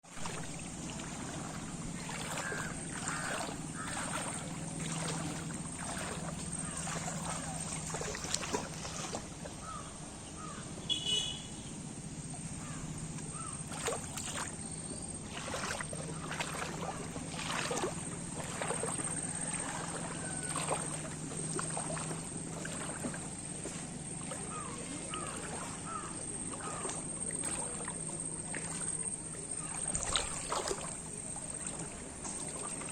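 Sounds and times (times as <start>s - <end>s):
floodwater rushing: 0.0s - 9.8s, 12.3s - 32.9s
low steady hum: 0.0s - 32.9s
splashy knocks: 0.1s - 9.2s, 13.6s - 14.6s, 15.2s - 25.8s, 26.5s - 29.0s, 29.7s - 32.9s.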